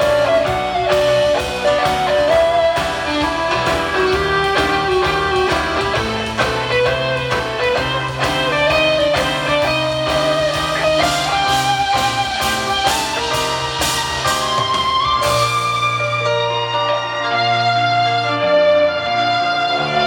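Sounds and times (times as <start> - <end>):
cymbals: 0.0 - 16.5
guitar sliding lead melody: 0.0 - 20.0
rock band playing live: 0.0 - 20.0.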